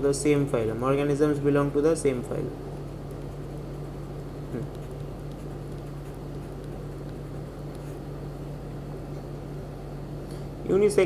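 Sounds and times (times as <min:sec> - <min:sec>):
low background hum with hiss: 0:00.0 - 0:11.0.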